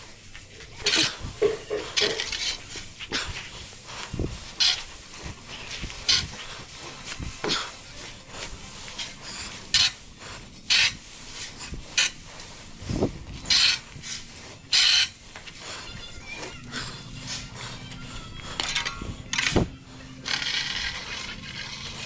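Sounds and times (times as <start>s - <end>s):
tool scraping stall bedding: 0.0s - 22.0s.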